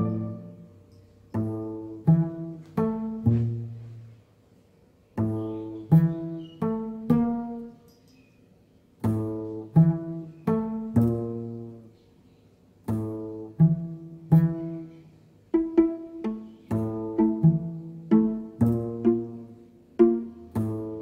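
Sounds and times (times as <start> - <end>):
pizzicato string notes: 0.0 - 8.0, 8.9 - 12.0, 12.6 - 21.0.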